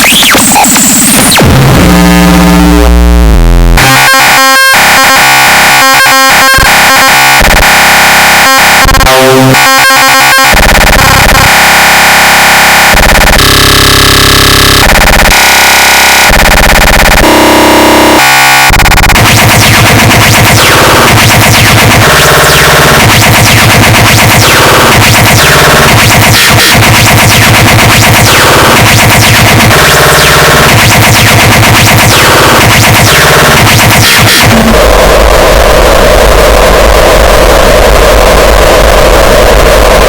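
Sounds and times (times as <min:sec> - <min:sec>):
distorted electronic noise: 0:00.0 - 0:40.0.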